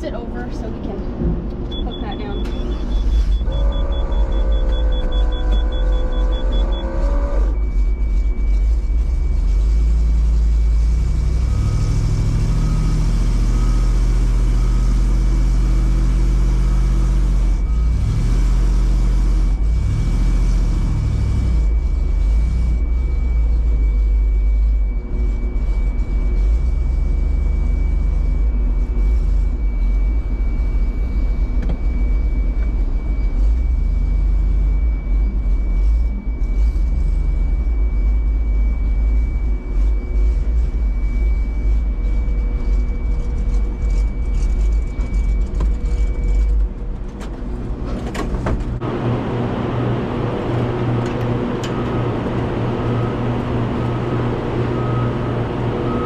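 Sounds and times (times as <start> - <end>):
thin steady whine: 0.0 - 56.0
vehicle engine deep rumble: 0.0 - 56.0.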